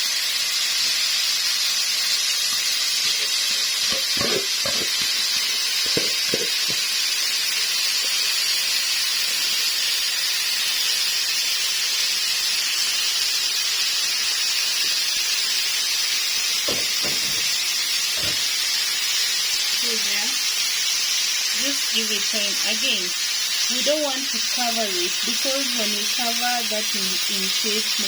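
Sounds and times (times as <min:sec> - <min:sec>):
chicken sizzling in a pan: 0:00.0 - 0:28.0.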